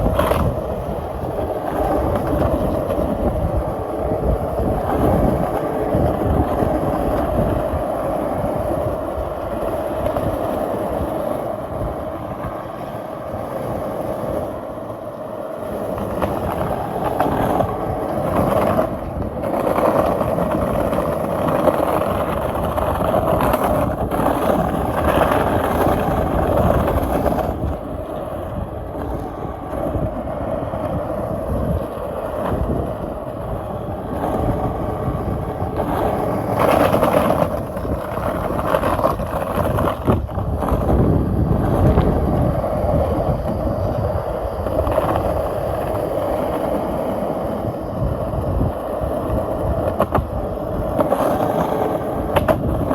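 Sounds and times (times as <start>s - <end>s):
skateboard wheels rolling on pavement: 0.0s - 52.9s.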